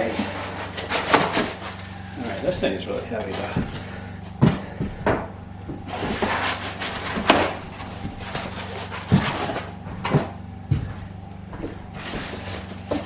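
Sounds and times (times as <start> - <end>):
heavy device knocking and bumping: 0.0 - 13.0
rustling: 0.0 - 13.0.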